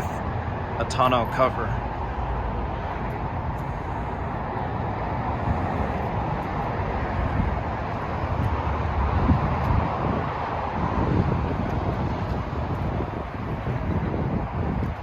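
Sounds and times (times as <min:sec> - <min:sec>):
low traffic rumble: 0:00.0 - 0:15.0
wind buffeting microphone: 0:02.4 - 0:15.0.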